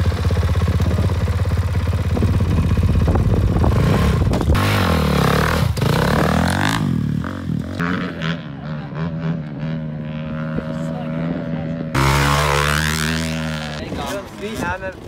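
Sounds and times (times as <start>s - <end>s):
dirt bike engine idling and revving: 0.0s - 15.0s.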